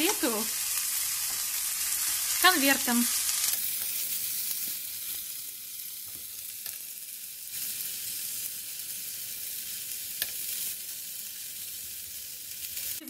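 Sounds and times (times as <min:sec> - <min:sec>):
butter sizzling in a pan: 0:00.0 - 0:13.0.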